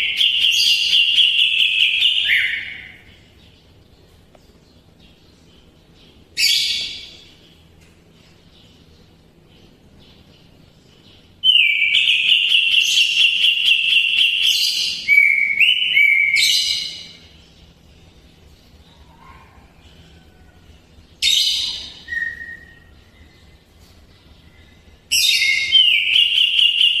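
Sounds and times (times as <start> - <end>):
bird singing: 0.0 - 27.0.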